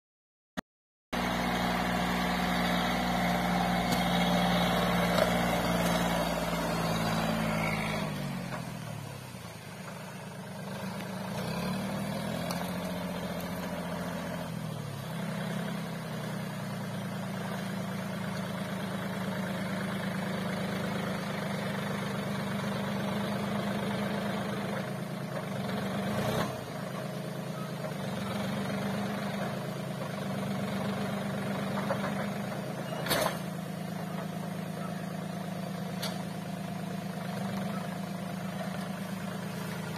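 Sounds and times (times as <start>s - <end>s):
tractor diesel engine labouring: 1.2s - 39.9s.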